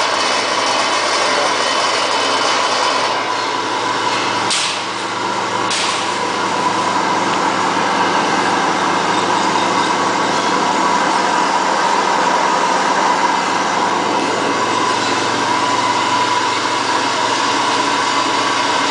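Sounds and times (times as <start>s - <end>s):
vibrating screen machine humming: 0.0s - 18.9s.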